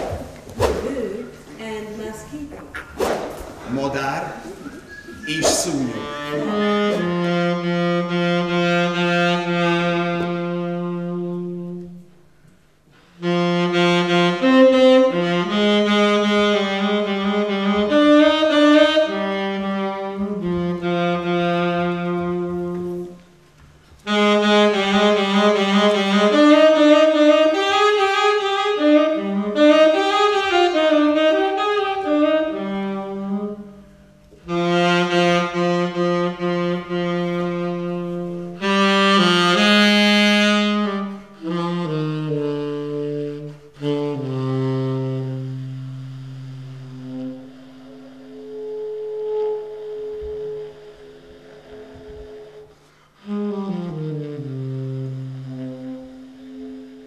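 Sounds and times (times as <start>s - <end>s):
saxophone solo melody: 4.4s - 57.0s.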